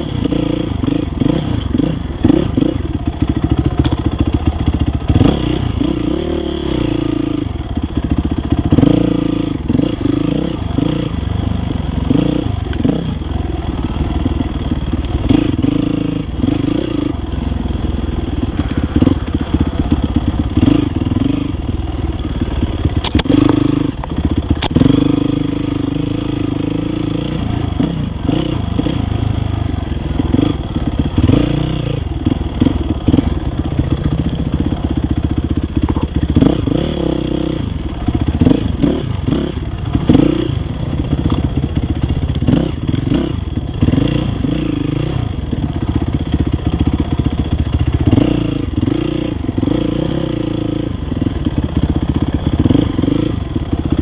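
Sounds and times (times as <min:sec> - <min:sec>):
dirt bike engine revving: 0:00.0 - 0:17.3, 0:18.3 - 0:54.0.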